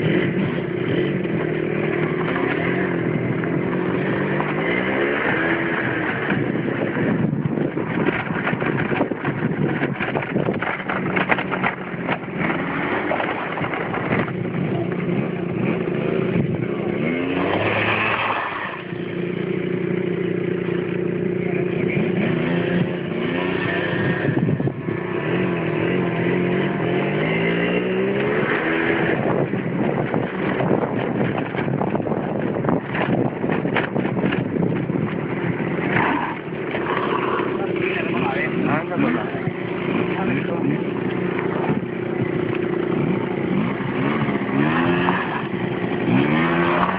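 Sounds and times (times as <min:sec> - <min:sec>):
scooter engine revving: 0:00.0 - 0:46.9
wind and dirt-road noise: 0:00.0 - 0:46.9.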